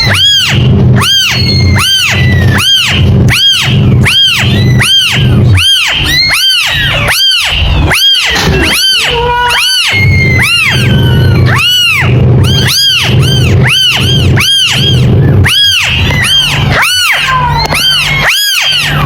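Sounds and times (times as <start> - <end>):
kitten meowing: 0.0 - 19.0.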